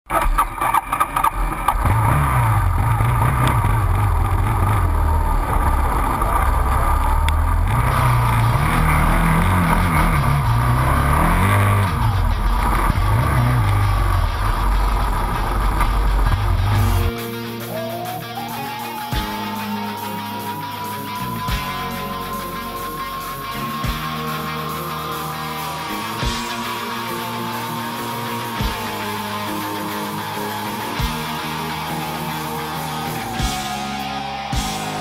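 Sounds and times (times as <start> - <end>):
quad bike engine revving: 0.1 - 35.0.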